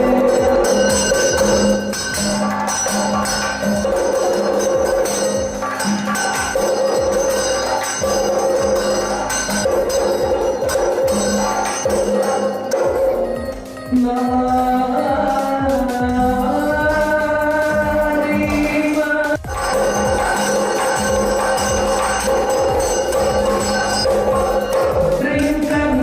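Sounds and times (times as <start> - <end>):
held tones: 0.0 - 26.0
metallic ringing: 0.0 - 26.0
rapid percussion strikes: 0.0 - 26.0.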